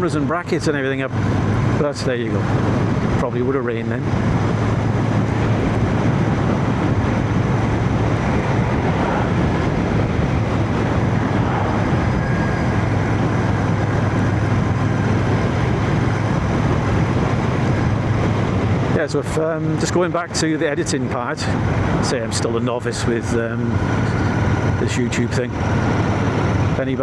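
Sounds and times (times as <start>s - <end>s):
motorcycle engine cruising: 0.0s - 27.0s
wind and road noise: 0.0s - 27.0s.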